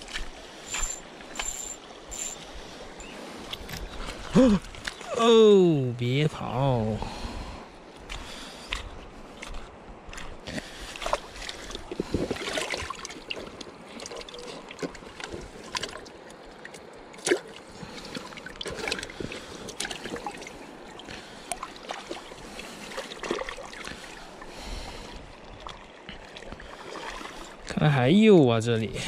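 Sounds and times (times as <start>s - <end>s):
river water splashing: 0.0s - 5.9s, 7.7s - 27.8s.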